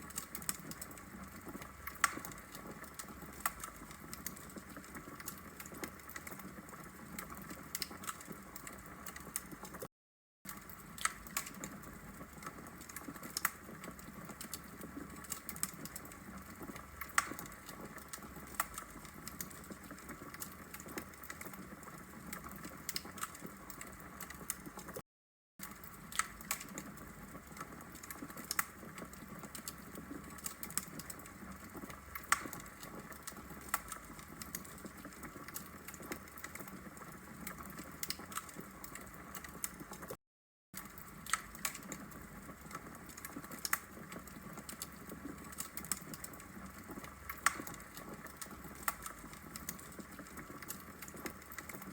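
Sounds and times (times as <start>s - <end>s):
fire crackling and popping: 0.0s - 9.9s, 10.5s - 25.0s, 25.6s - 40.2s, 40.8s - 51.9s.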